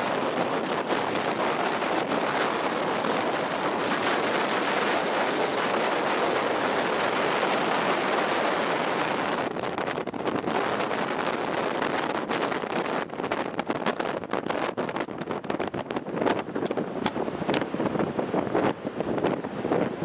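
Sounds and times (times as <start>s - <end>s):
heavy surf rushing: 0.0s - 20.0s
wind: 0.0s - 20.0s.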